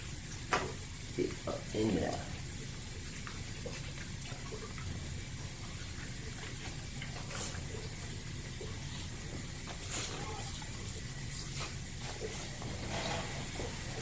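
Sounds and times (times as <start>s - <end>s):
low background hum: 0.0s - 14.0s
toothbrush scrubbing teeth: 0.0s - 14.0s.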